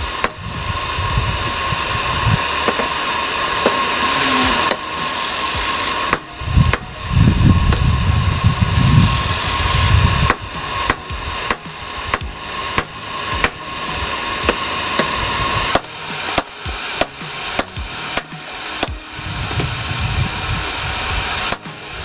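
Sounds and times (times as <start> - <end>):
hammer striking hot steel: 0.0 - 19.8
steady hum: 0.0 - 22.0.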